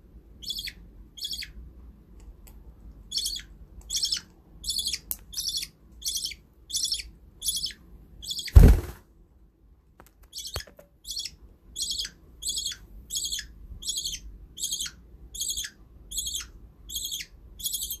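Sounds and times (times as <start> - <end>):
bird chick cheeping: 0.4 - 1.6, 3.1 - 8.9, 10.3 - 18.0.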